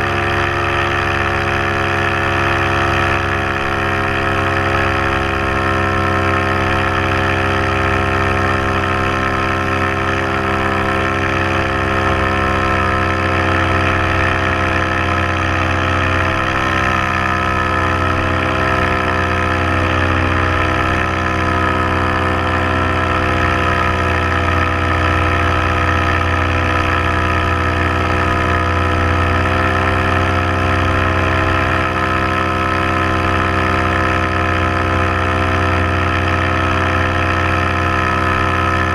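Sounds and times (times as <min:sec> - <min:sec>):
paramotor engine and propeller: 0:00.0 - 0:38.9.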